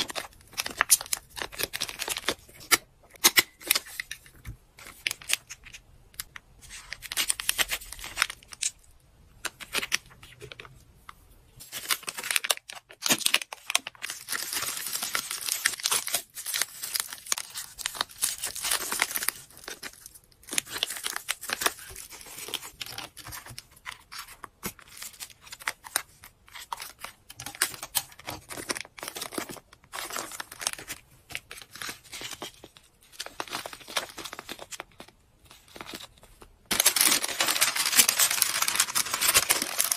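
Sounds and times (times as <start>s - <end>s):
plastic packaging crinkling: 0.0s - 8.9s, 11.6s - 39.9s.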